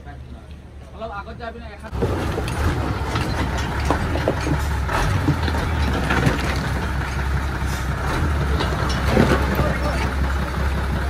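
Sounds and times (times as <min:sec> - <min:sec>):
truck diesel engine idling: 0:01.9 - 0:11.0.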